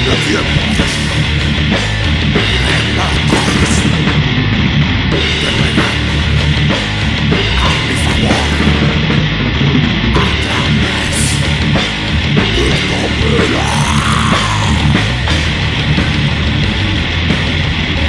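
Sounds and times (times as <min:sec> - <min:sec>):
distorted electric guitar: 0:00.0 - 0:18.0
drum kit: 0:00.0 - 0:18.0.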